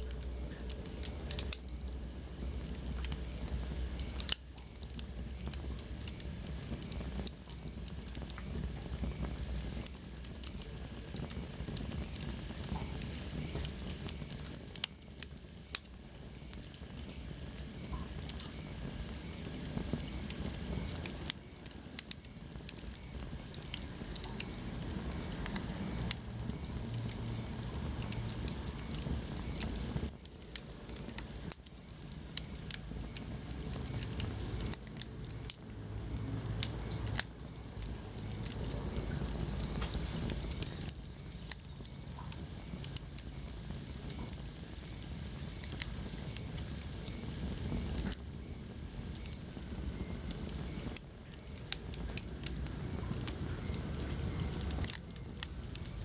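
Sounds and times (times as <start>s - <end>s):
fire hiss: 0.0s - 56.0s
wood fire crackling and popping: 0.0s - 56.0s.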